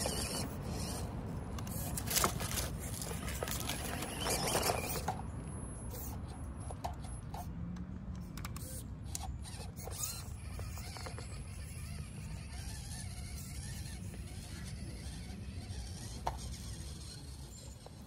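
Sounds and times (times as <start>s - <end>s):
tires scraping and crunching: 0.0s - 7.6s, 8.6s - 18.0s
drivetrain clicks and squeaks: 0.0s - 18.0s.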